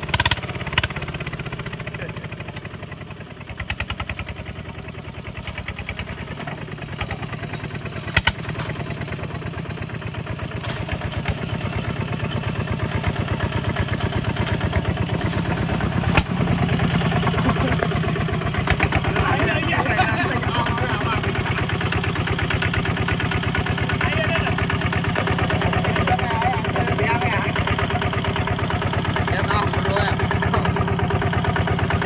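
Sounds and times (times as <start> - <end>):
diesel engine chugging: 0.0 - 32.0.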